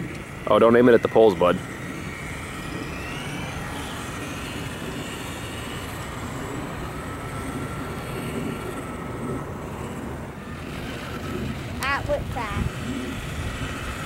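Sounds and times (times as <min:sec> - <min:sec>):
remote-control car motor whine: 0:00.0 - 0:14.0.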